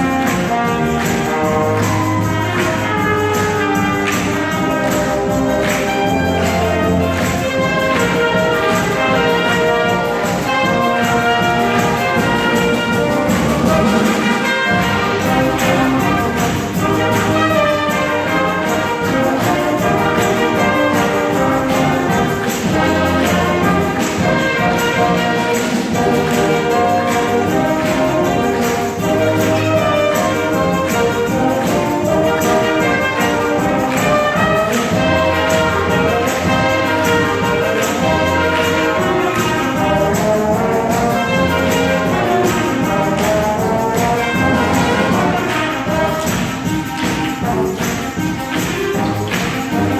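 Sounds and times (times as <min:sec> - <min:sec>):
trumpets and trombones: 0:00.0 - 0:49.9
wind band playing: 0:00.0 - 0:49.9.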